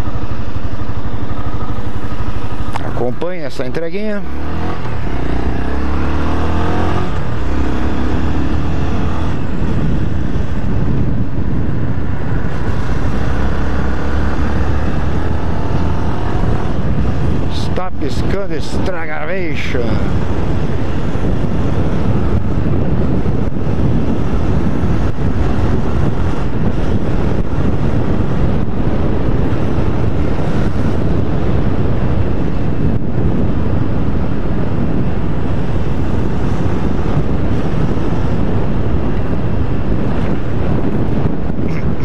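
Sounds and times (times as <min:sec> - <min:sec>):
motorcycle engine cruising: 0:00.0 - 0:42.0
wind on microphone: 0:00.0 - 0:42.0.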